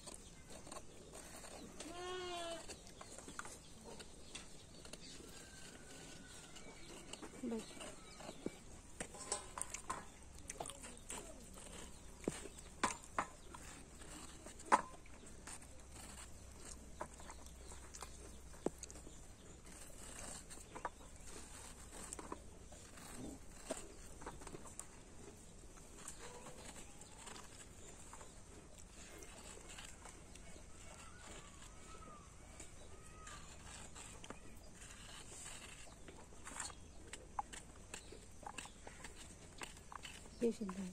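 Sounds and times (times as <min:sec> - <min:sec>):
knife cutting gourd: 0:00.0 - 0:40.9.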